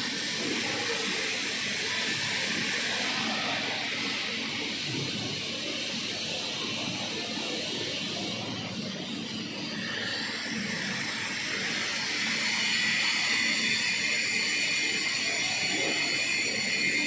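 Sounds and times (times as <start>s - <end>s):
welding arc hissing and buzzing: 0.0s - 17.0s.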